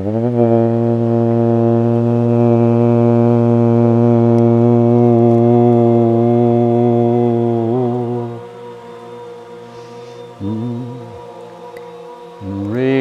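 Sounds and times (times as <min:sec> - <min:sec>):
person voicing a long low note: 0:00.0 - 0:13.0.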